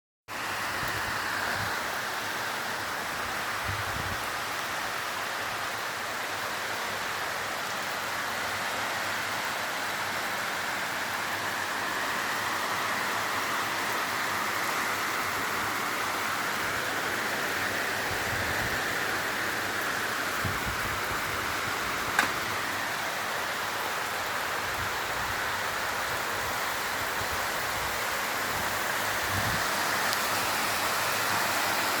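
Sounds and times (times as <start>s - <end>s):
rain falling: 0.3s - 32.0s.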